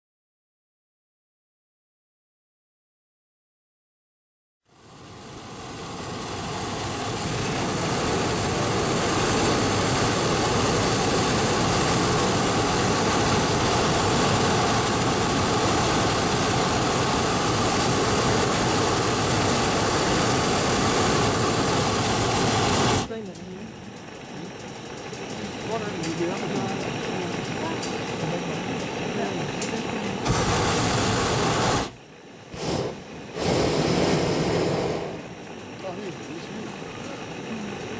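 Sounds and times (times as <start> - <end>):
propane burner firing: 4.7 - 37.9.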